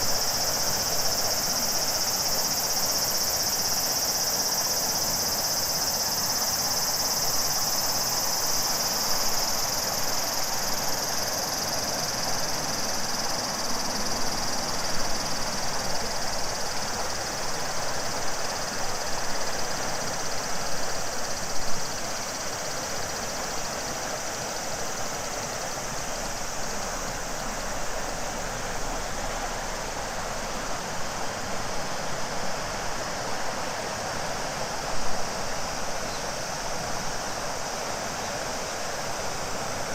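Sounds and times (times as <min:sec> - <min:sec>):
shrill cicada chorus: 0:00.0 - 0:39.9.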